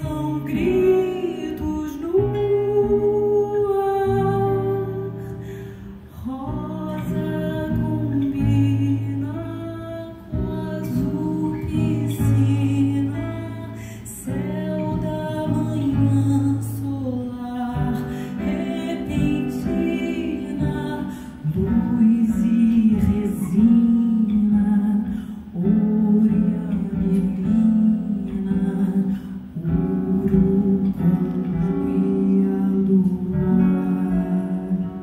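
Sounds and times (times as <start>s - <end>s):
acoustic guitar chords: 0.0s - 35.0s
woman singing: 0.0s - 35.0s.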